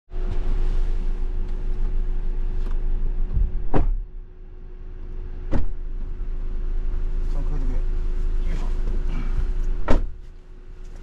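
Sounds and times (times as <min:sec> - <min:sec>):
car engine running: 0:00.1 - 0:11.0.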